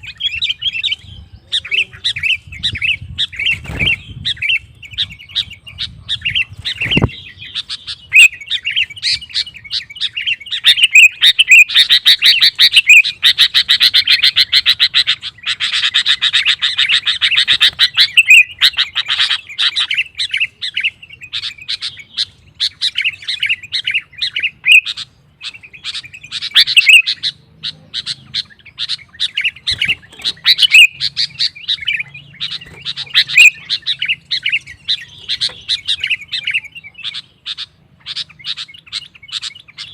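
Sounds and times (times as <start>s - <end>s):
bird singing whistled phrases: 0.0s - 18.8s, 19.4s - 39.9s
bird chattering harshly: 0.0s - 39.9s.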